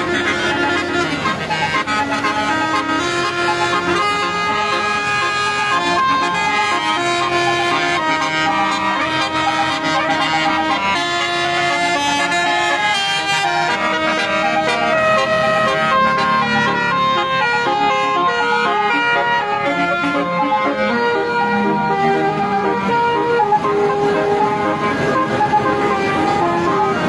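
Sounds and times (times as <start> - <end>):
multi-tone air horn melody: 0.0 - 27.0.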